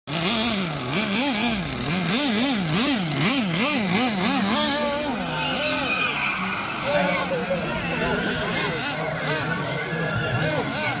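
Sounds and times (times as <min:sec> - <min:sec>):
small engine revving: 0:00.1 - 0:11.0.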